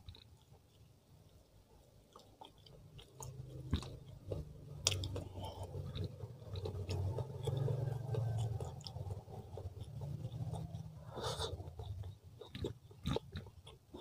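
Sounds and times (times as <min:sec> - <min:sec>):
close chewing: 0:00.0 - 0:14.0.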